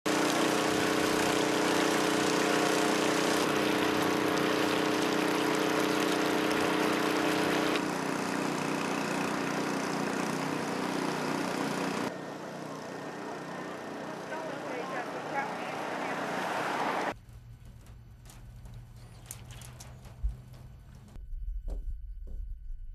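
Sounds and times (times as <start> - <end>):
engine-driven water pumps running: 0.0 - 21.2.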